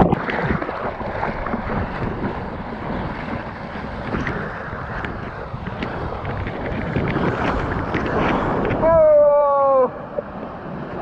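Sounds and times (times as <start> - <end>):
water splashing around surfboard: 0.0 - 11.0
wind on microphone: 0.0 - 11.0.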